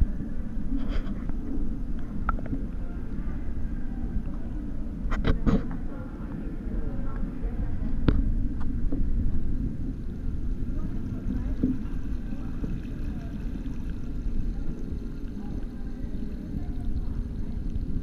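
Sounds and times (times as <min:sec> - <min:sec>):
muffled underwater rumble: 0:00.0 - 0:18.0.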